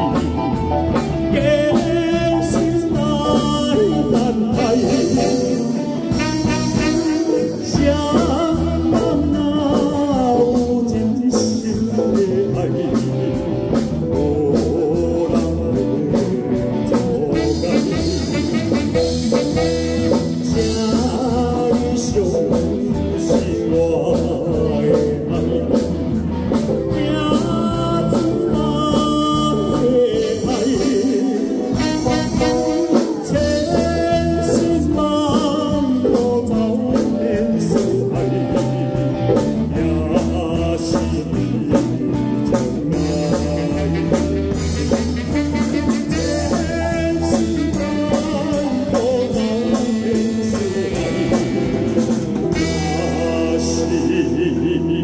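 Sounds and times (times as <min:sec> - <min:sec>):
live band playing: 0:00.0 - 0:55.0
man singing slow ballad: 0:01.0 - 0:55.0.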